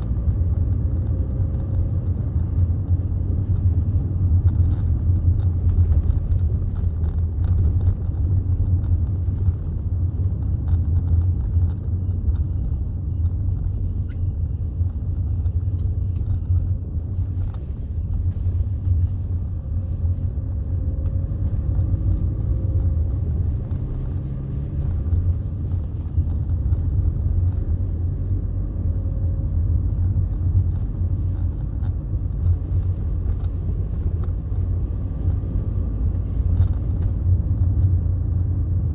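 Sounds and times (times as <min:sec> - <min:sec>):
car engine rumbling: 0:00.0 - 0:38.9
road noise: 0:00.0 - 0:38.9.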